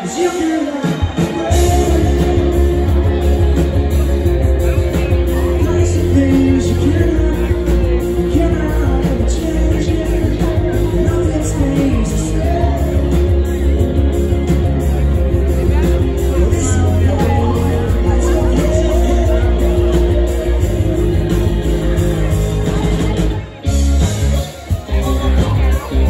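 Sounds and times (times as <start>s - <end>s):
person singing: 0.0s - 23.3s
live rock band playing: 0.0s - 26.0s.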